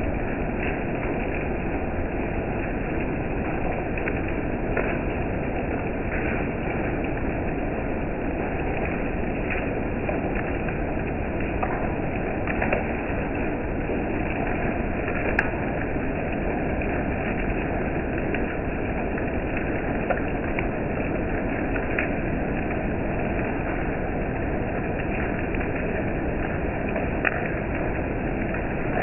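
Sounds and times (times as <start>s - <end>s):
rain drop taps: 0.0s - 29.0s
steady rain falling: 0.0s - 29.0s.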